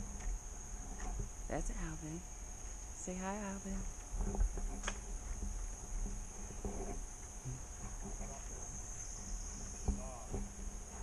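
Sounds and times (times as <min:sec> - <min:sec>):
insects droning shrilly: 0:00.0 - 0:11.0.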